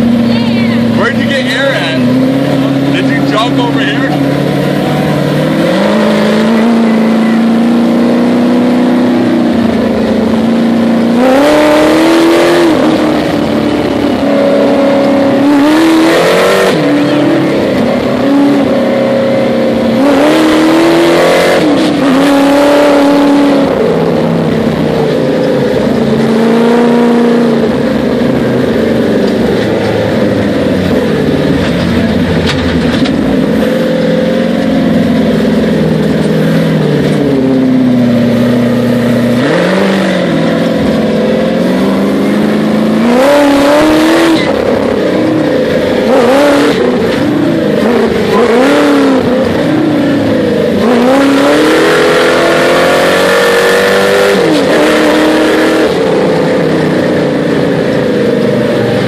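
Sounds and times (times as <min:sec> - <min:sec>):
engine revving hard: 0:00.0 - 0:28.7, 0:29.5 - 0:59.0.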